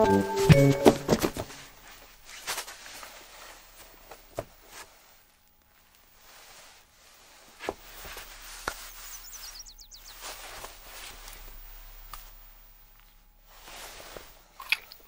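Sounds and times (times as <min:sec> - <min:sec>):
rustles: 0:01.1 - 0:14.6.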